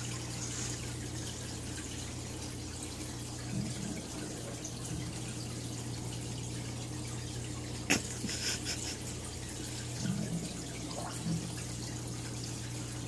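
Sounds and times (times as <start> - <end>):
water trickling into tank: 0.0 - 13.0.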